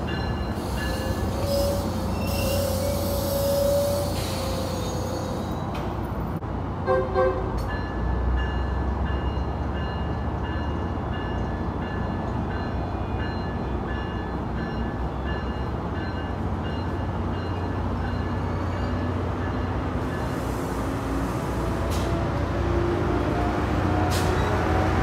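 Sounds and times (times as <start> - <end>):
diesel train rumbling: 0.0 - 25.0.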